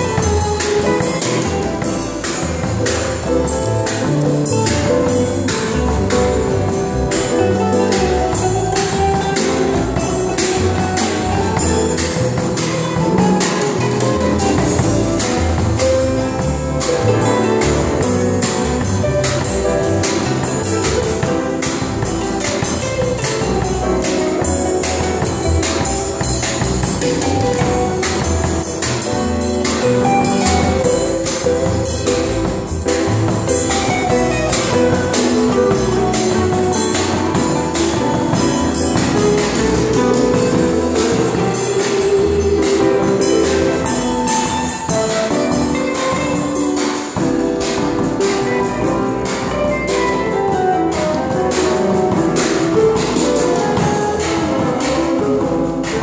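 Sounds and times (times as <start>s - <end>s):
drum kit with cymbal hits: 0.0s - 56.0s
electric bass: 0.0s - 56.0s
electric guitar: 0.0s - 56.0s
grand piano playing: 0.0s - 56.0s.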